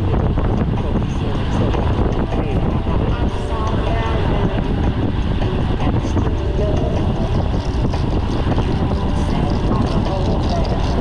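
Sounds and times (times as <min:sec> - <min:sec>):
road and traffic noise: 0:00.0 - 0:11.0
wind rushing on microphone: 0:00.0 - 0:11.0.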